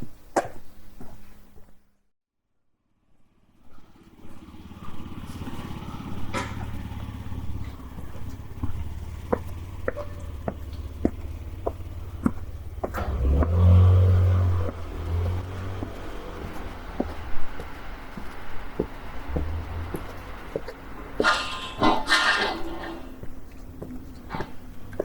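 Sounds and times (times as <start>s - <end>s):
vehicle engine humming: 3.2s - 25.0s
footsteps: 3.7s - 25.0s.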